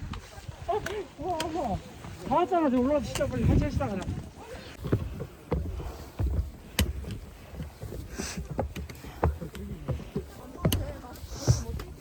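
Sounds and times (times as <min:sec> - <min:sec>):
footsteps on a trail: 0:00.0 - 0:12.0.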